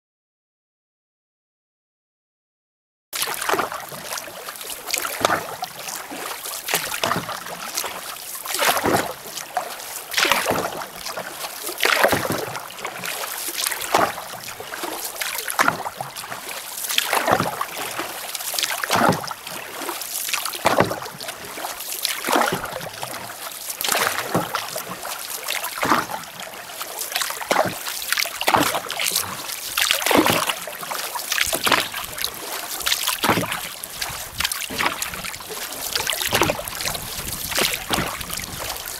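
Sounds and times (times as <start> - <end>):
water splashing along canoe: 3.2 - 38.9.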